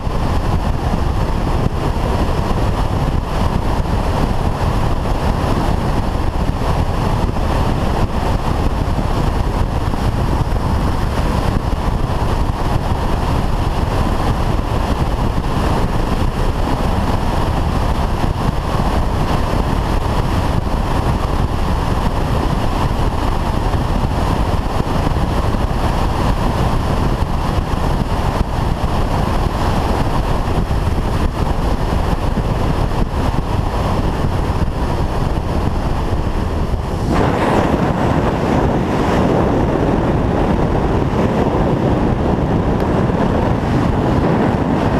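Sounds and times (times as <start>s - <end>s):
motorcycle engine drone: 0.0s - 44.9s
wind and road noise: 0.0s - 44.9s.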